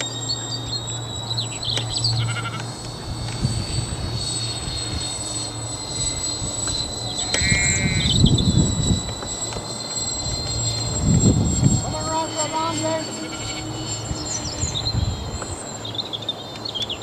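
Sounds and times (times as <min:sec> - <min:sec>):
model airplane motors droning: 0:00.0 - 0:17.0
wind rumble on microphone: 0:00.0 - 0:17.0.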